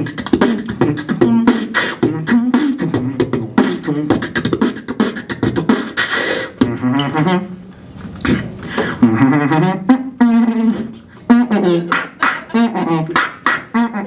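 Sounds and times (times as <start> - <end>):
beatboxing into microphone: 0.0 - 14.0.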